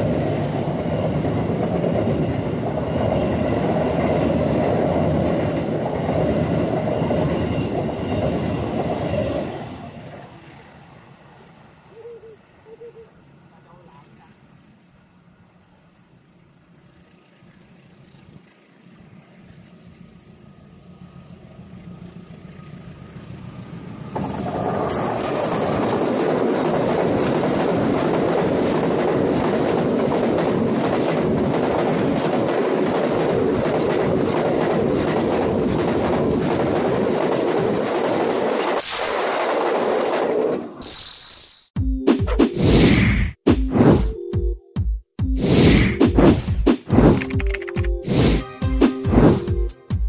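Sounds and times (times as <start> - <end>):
train wheels running overhead: 0.0 - 41.0.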